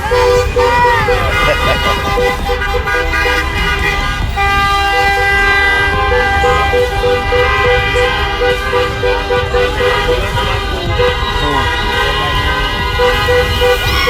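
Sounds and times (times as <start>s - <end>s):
car horns honking: 0.0s - 14.0s
horn tooting rapidly: 0.0s - 14.0s.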